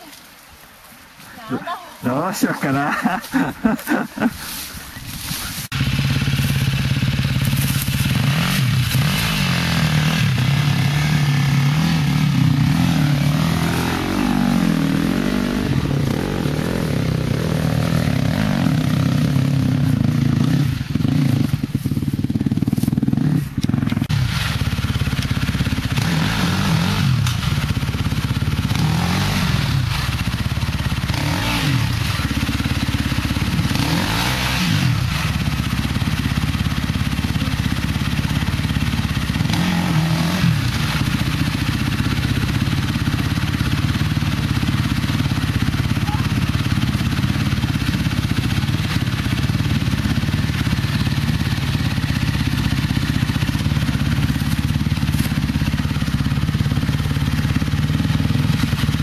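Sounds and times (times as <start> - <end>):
dirt bike engine revving: 2.1 - 59.0.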